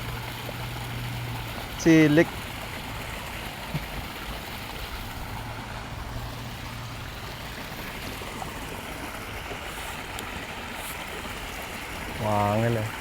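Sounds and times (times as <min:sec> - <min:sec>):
rushing flowing water: 0:00.0 - 0:13.0.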